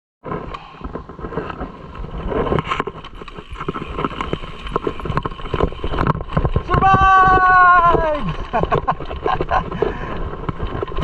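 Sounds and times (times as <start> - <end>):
bicycle rattling over dirt trail: 0.2 - 11.0
wind rumbling on microphone: 0.2 - 11.0.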